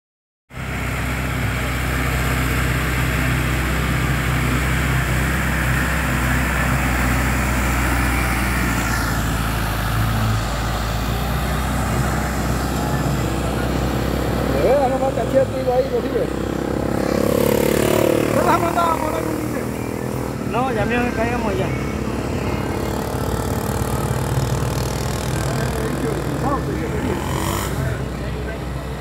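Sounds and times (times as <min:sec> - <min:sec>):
tractor diesel engine running: 0:00.5 - 0:29.0.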